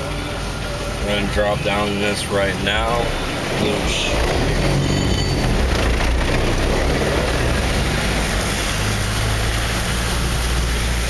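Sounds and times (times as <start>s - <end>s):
truck engine running: 0.0s - 11.0s
water rushing and splashing: 0.0s - 11.0s.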